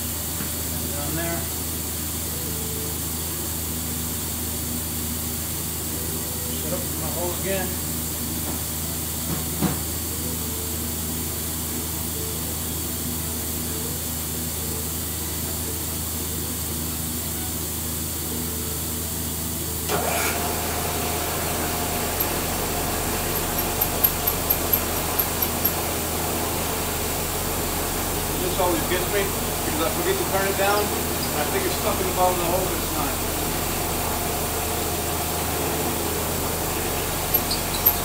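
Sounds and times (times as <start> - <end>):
milling machine spindle whine: 0.0 - 38.0
shop hum: 0.0 - 38.0.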